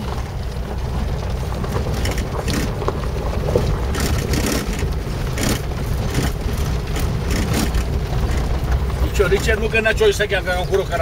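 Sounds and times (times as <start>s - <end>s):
engine and road rumble: 0.0s - 11.0s
vehicle knocks and rattles: 0.0s - 11.0s.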